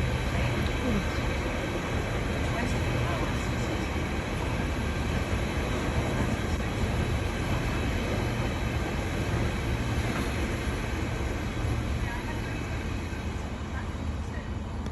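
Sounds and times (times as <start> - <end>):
diesel locomotive engine drone: 0.0 - 14.9
train rumble: 0.0 - 14.9.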